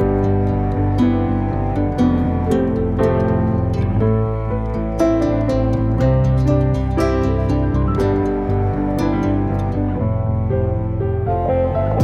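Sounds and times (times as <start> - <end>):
plucked guitar-like notes: 0.0 - 10.2, 11.3 - 12.0
steady bass: 0.0 - 12.0.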